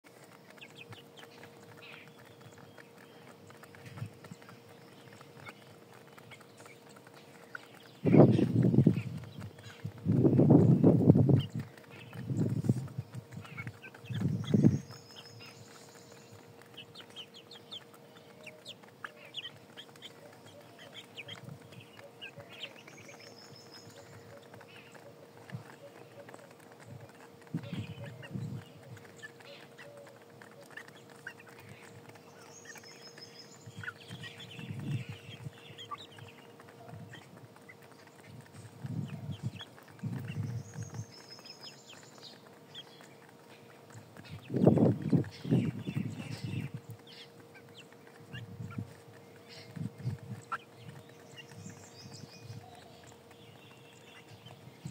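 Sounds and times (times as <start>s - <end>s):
chickens clucking softly: 0.0s - 54.9s
chickens pecking concrete: 0.0s - 54.9s
faint steady hum: 0.1s - 54.9s.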